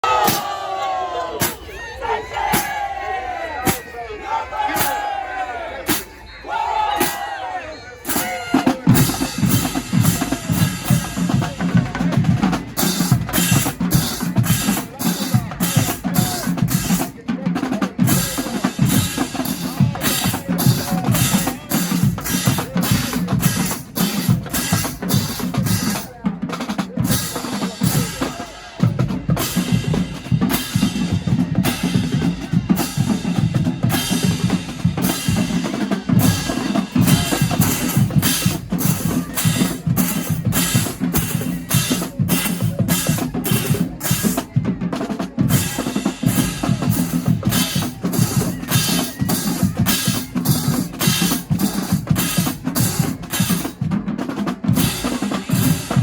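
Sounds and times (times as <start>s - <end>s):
marching drumline playing: 0.0s - 56.0s.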